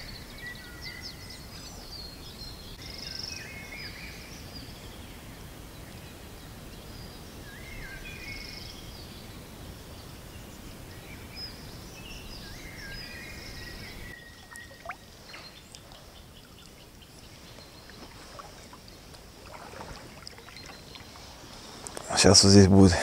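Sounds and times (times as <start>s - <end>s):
birds chirping: 0.0s - 23.0s
wind and water hiss: 0.0s - 23.0s.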